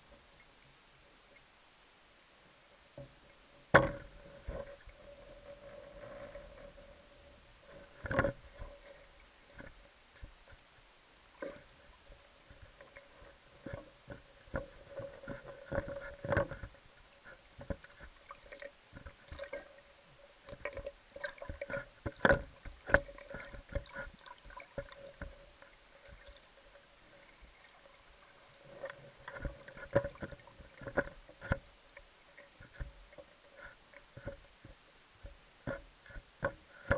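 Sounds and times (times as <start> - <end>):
faint steady hum: 0.0 - 36.9
muffled underwater clicks and knocks: 2.9 - 10.8, 11.4 - 36.9.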